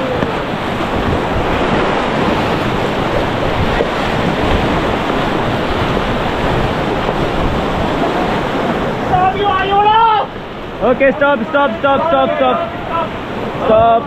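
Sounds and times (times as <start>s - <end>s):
whitewater rushing: 0.0s - 14.0s
wind buffeting microphone: 0.0s - 14.0s.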